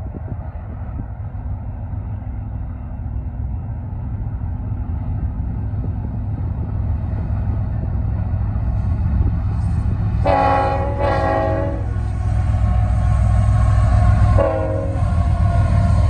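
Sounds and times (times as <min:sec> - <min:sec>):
diesel locomotive engines rumbling: 0:00.0 - 0:16.0.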